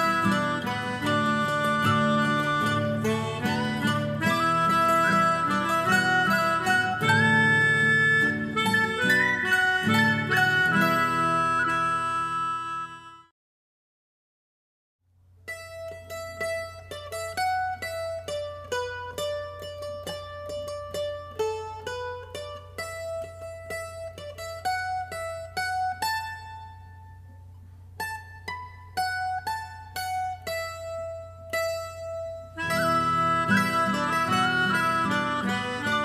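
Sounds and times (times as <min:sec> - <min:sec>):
plucked string melody: 0:00.0 - 0:13.3, 0:15.5 - 0:36.0.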